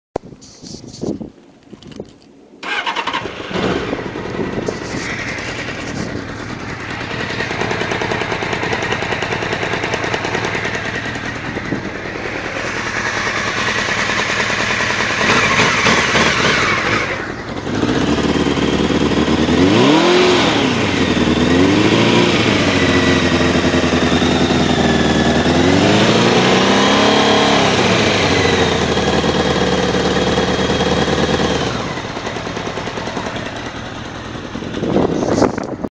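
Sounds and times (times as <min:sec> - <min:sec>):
motorcycle engine starting and revving: 0:02.6 - 0:35.9.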